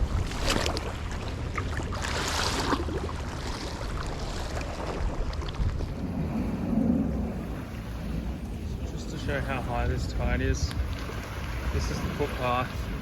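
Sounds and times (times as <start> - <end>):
river water washing at bank: 0.0 - 13.0
wind buffeting microphone: 0.0 - 13.0.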